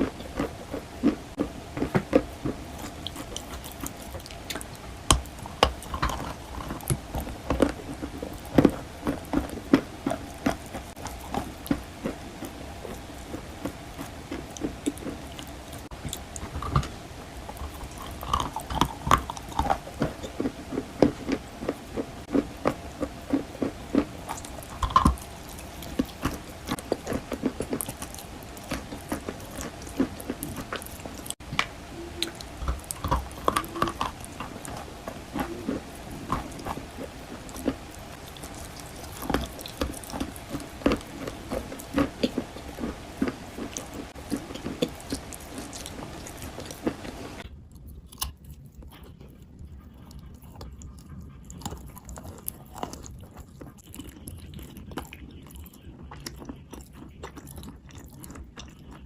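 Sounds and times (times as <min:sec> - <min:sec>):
chalk being chewed: 0:00.0 - 0:31.4, 0:32.2 - 0:59.0.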